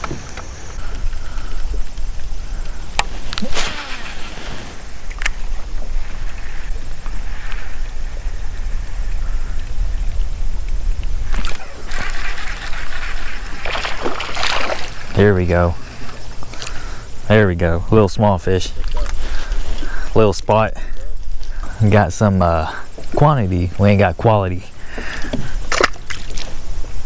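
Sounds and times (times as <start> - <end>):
water lapping along kayak hull: 0.0 - 27.0
wind buffeting microphone: 0.0 - 27.0.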